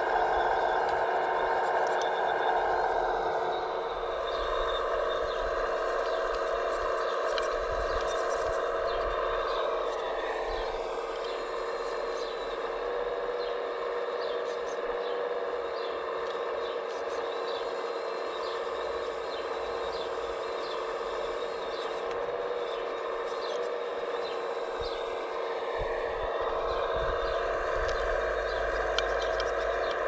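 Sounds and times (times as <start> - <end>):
electric motor whine: 0.0 - 30.0
small birds chirping: 0.0 - 30.0.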